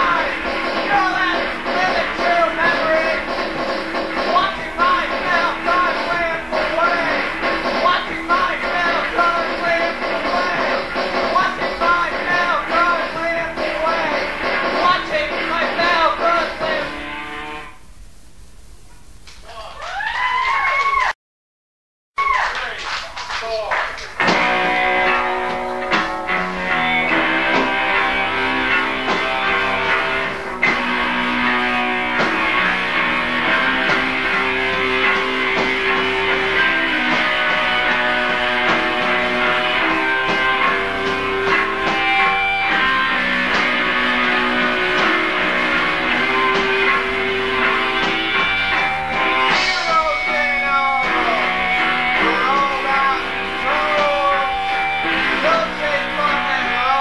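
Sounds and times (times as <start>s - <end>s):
live rock band with guitar: 0.0s - 17.8s, 24.0s - 57.0s.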